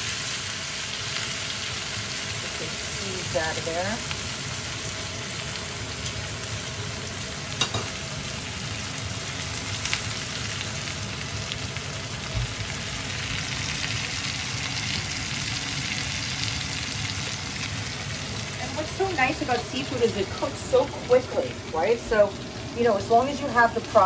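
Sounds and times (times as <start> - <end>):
crabs sizzling in a skillet: 0.0 - 24.0.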